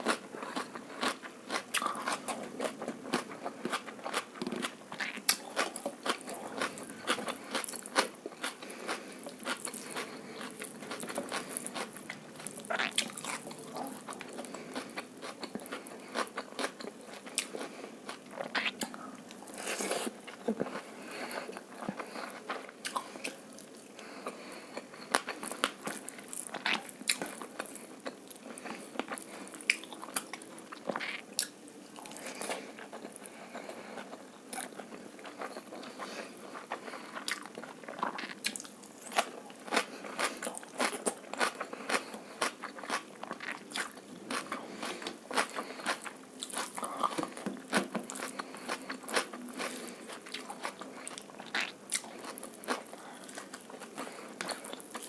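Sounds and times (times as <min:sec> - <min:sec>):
chewing food: 0:00.0 - 0:55.0.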